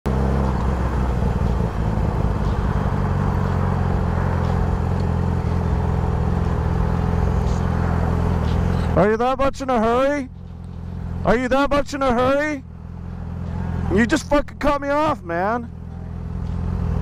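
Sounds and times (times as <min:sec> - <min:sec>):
motorcycle engine running: 0:00.1 - 0:17.0.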